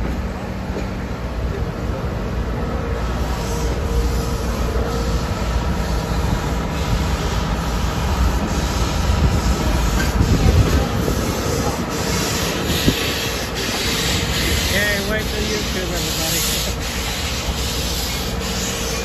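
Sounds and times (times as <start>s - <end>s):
train wheels rumbling on rail: 0.0s - 19.0s
wheels squealing against rail: 3.0s - 19.0s.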